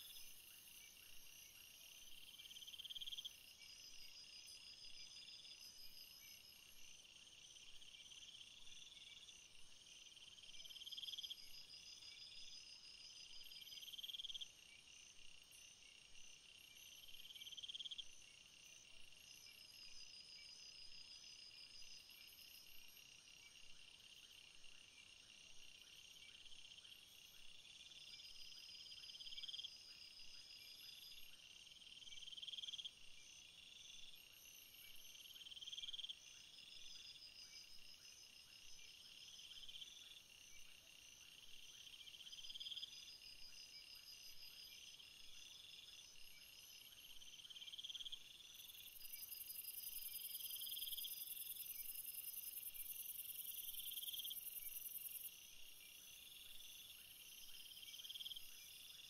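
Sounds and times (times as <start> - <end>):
insect-like chirps and trills: 0.0 - 59.0.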